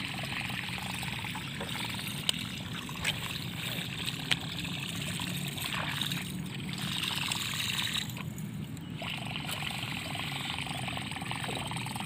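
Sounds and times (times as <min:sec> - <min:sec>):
water lapping against boat: 0:00.0 - 0:12.0.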